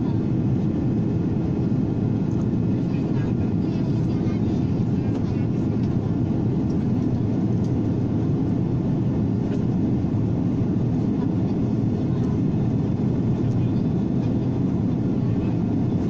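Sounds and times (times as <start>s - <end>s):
jet airliner cabin noise: 0.0s - 16.0s.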